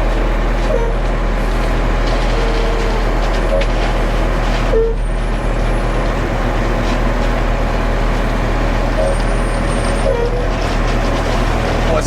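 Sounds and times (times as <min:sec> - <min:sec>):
concrete mixer truck running: 0:00.0 - 0:12.0.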